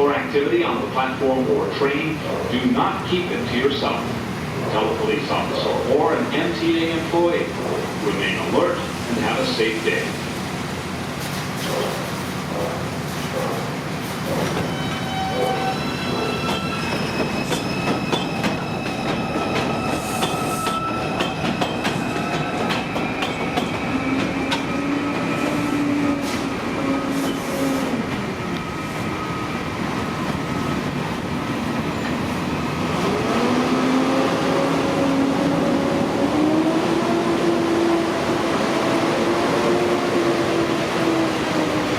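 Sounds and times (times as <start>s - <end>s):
subway train rumbling: 0.0s - 41.9s.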